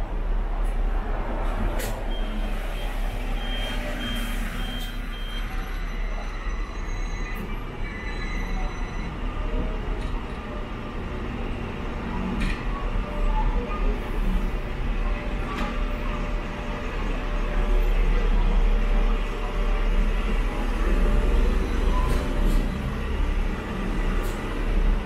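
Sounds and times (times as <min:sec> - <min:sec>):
tram rumble: 0:00.0 - 0:25.0.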